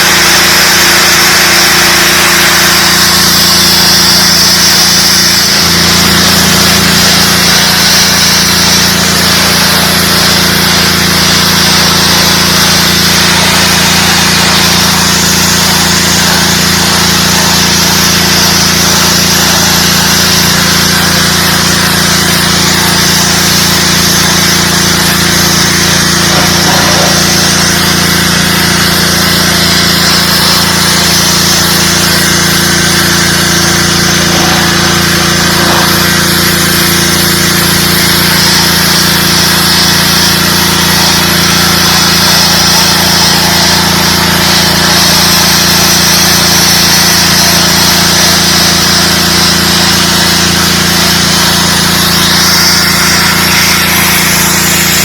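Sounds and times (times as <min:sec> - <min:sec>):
high-pressure water spray hiss: 0:00.0 - 0:55.0
pressure washer engine hum: 0:00.0 - 0:55.0.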